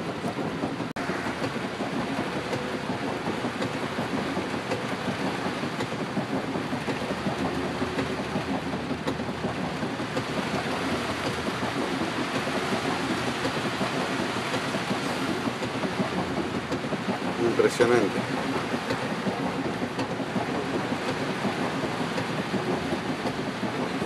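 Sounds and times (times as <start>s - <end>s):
heavy rain on car: 0.0s - 24.0s
water washing around car: 0.0s - 24.0s.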